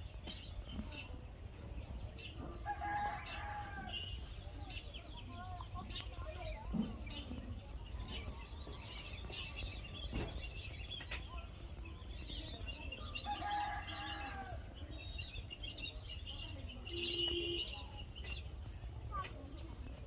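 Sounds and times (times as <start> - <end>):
small birds chirping and twittering: 0.0 - 20.0.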